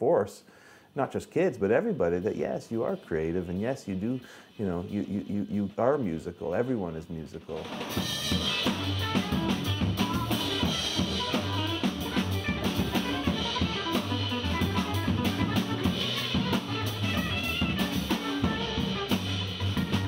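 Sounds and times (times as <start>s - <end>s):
jazz drums and cymbals: 1.9s - 20.0s.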